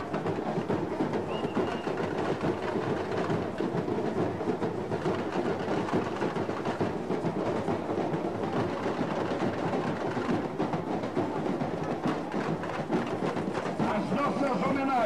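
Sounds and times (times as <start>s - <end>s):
samba drum section playing: 0.0s - 15.0s.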